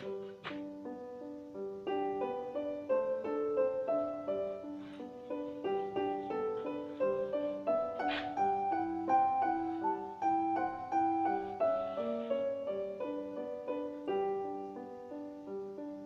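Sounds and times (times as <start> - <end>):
solo classical piano: 0.0 - 16.0.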